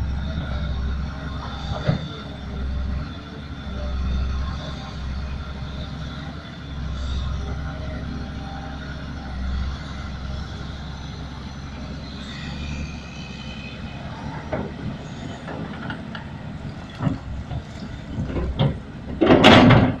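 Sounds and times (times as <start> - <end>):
excavator engine and hydraulics: 0.0 - 20.0.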